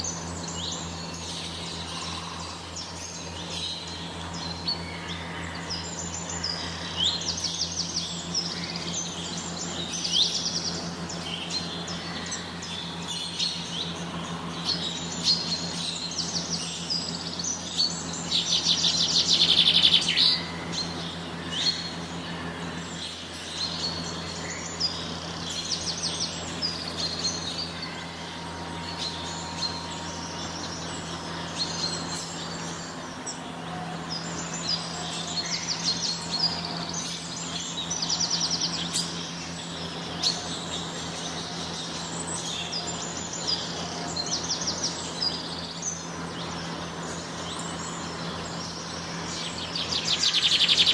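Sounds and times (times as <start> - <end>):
rapid bird trills: 0.0 - 50.9
small birds chirping and twittering: 0.0 - 50.9
steady low hum: 0.0 - 50.9.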